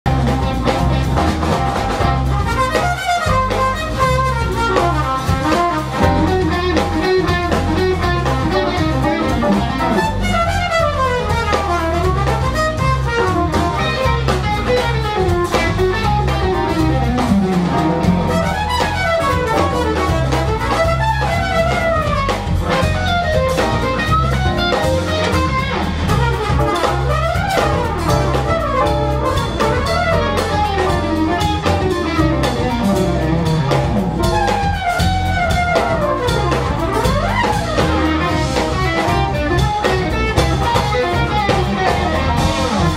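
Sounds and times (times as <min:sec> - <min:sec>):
drum kit: 0:00.0 - 0:42.9
electric bass: 0:00.0 - 0:42.9
electric guitar: 0:00.1 - 0:42.9
trumpet melodic runs: 0:01.8 - 0:42.9.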